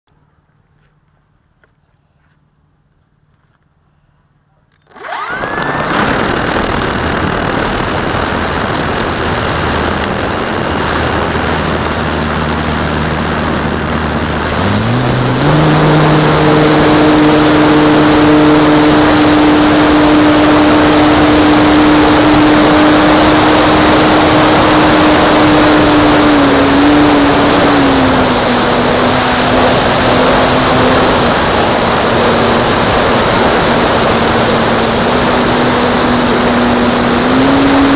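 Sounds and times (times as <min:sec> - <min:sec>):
model plane motor droning: 0:04.6 - 0:37.9.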